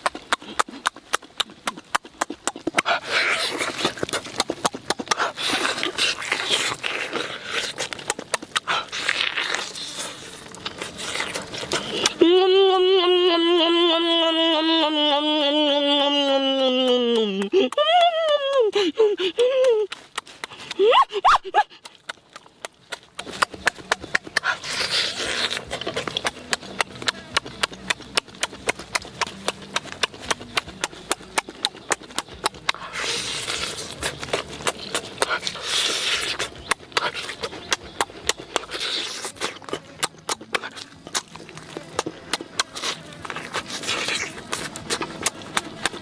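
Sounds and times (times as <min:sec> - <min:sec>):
meat tearing from bone: 0:00.0 - 0:12.2, 0:18.8 - 0:46.0
open-mouth chewing: 0:00.0 - 0:46.0.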